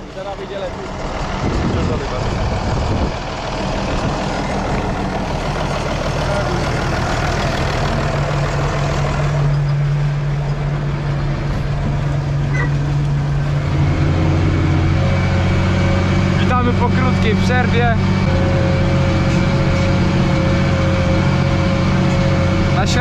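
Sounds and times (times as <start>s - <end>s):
rushing noise: 0.0s - 23.0s
tractor diesel engine idling: 0.0s - 23.0s.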